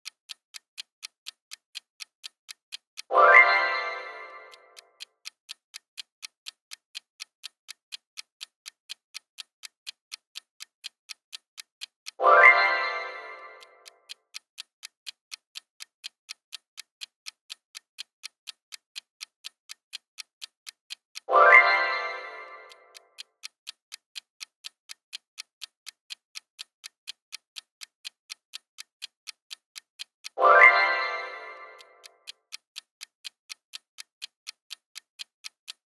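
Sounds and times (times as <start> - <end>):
countdown timer ticking: 0.0 - 35.9.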